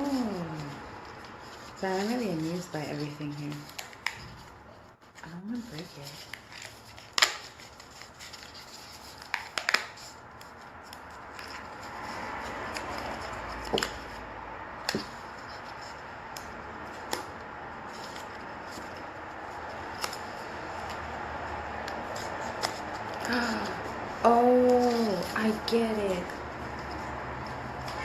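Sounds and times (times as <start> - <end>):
rustling and scraping: 0.0 - 28.0.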